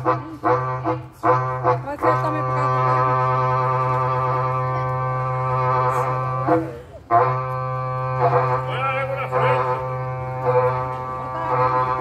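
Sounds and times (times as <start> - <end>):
horn trumpet blowing: 0.0 - 12.0.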